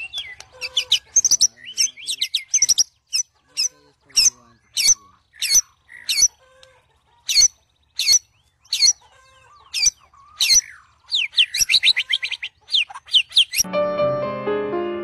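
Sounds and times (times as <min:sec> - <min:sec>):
bird calling sharp notes: 0:00.0 - 0:13.7.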